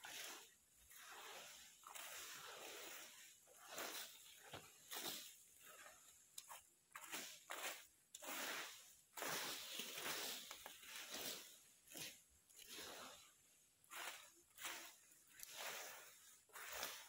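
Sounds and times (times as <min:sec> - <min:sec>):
broom sweeping dry leaves: 0:00.0 - 0:17.0.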